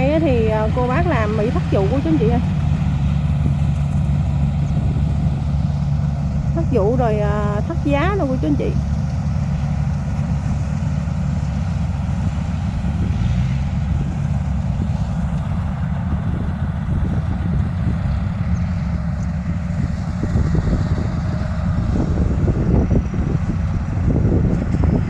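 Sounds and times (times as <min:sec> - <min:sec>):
harvester engine rumbling: 0:00.0 - 0:25.0.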